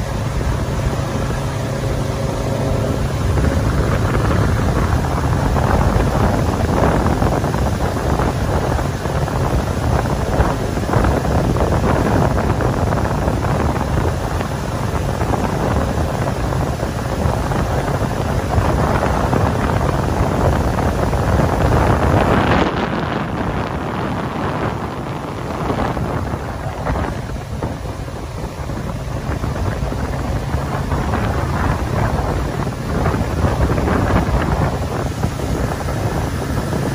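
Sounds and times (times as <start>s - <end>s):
boat engine and hull noise: 0.0s - 36.9s
wind buffeting microphone: 0.0s - 36.9s.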